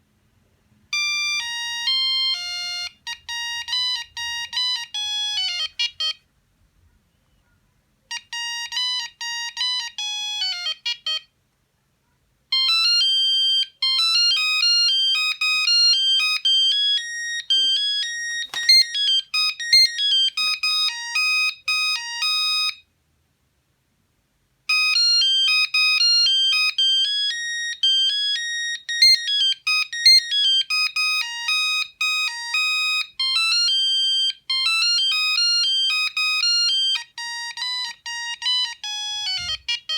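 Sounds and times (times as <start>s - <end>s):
electronic beeping ringtone melodies: 0.9s - 6.2s, 8.1s - 11.3s, 12.6s - 22.8s, 24.7s - 39.9s.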